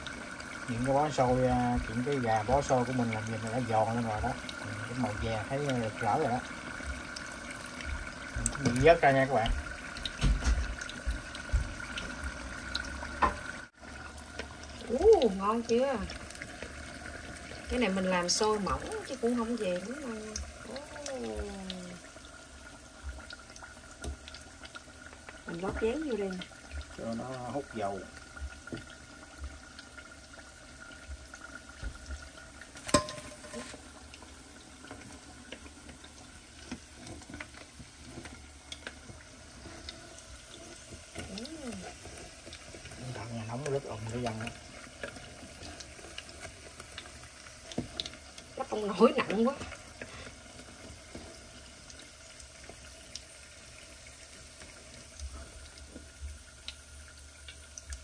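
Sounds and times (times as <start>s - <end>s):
oil sizzling in a deep fryer: 0.0s - 58.0s.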